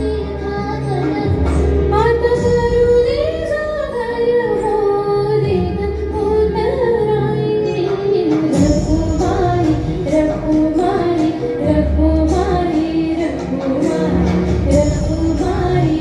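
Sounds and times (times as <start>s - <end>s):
instrumental accompaniment: 0.0s - 16.0s
woman singing: 0.0s - 16.0s.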